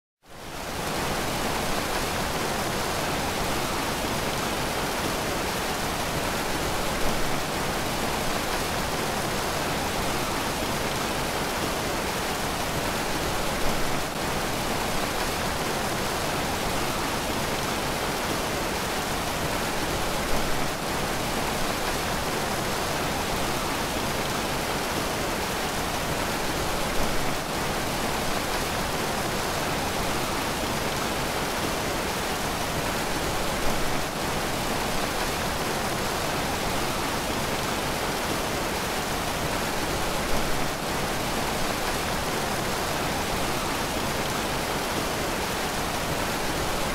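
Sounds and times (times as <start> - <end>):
waterfall roaring: 0.7 - 46.9.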